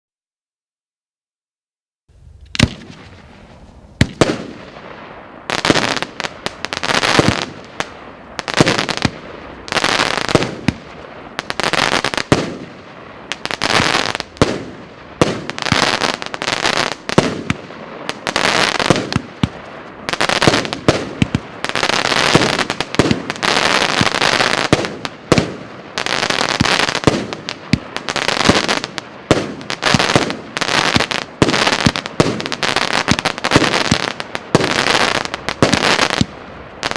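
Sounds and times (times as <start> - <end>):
firework crackling bursts: 2.2 - 36.9.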